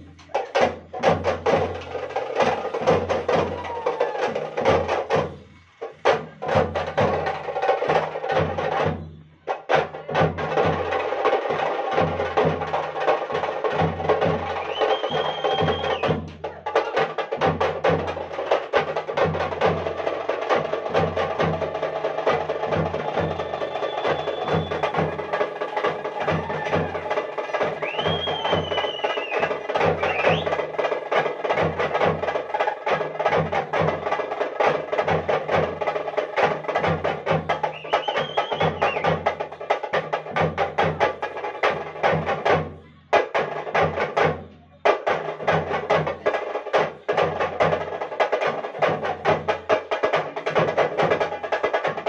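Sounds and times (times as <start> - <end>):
frame drums played with sticks: 0.0 - 52.0.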